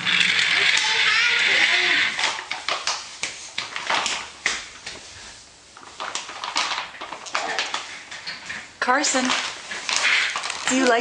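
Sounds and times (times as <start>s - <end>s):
toys clattering on tile floor: 0.0s - 4.6s, 5.8s - 11.0s.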